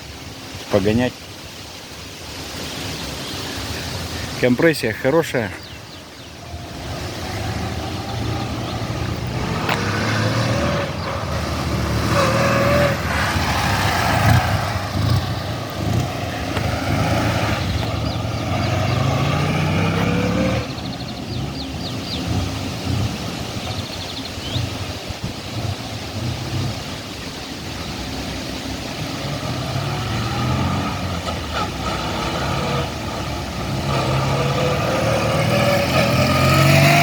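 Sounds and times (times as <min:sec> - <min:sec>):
motorcycle engine revving: 0:05.6 - 0:37.0.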